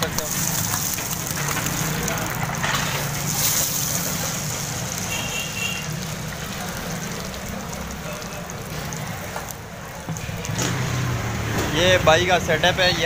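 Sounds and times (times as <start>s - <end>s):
patty sizzling in hot oil: 0.0s - 13.0s.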